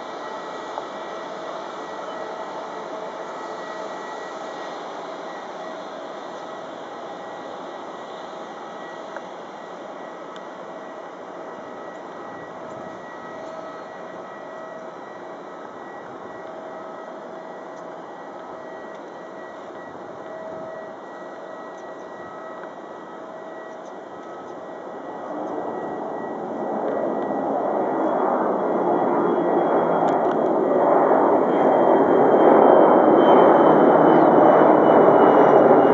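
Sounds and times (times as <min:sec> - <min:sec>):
jet airliner taking off: 0:00.0 - 0:35.9.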